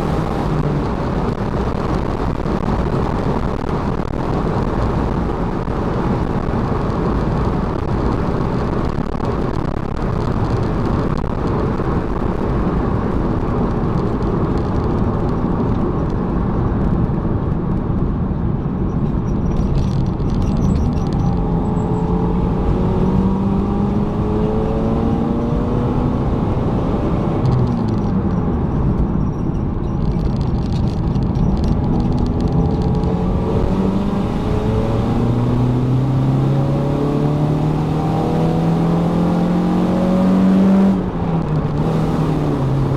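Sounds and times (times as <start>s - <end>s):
car engine accelerating: 0.0s - 14.6s, 18.7s - 42.9s
road and wind noise: 0.0s - 42.9s.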